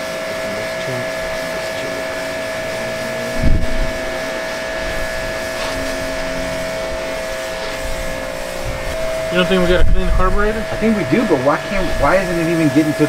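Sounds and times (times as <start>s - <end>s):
machine motor drone whining: 0.0s - 13.0s.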